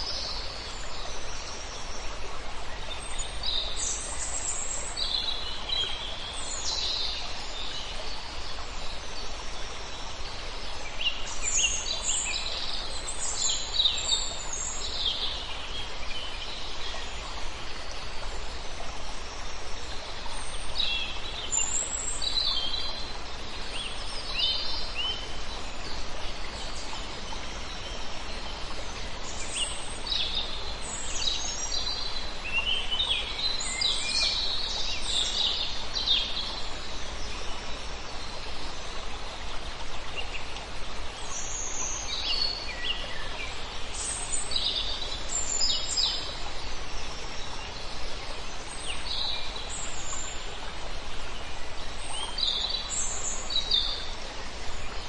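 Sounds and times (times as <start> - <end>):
songbirds chirping: 0.0 - 55.0
stream rushing: 0.0 - 55.0.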